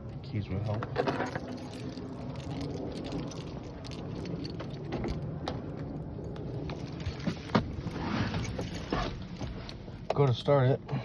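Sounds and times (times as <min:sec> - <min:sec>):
steady low rumble: 0:00.0 - 0:11.0
car keys jangling: 0:00.6 - 0:10.4.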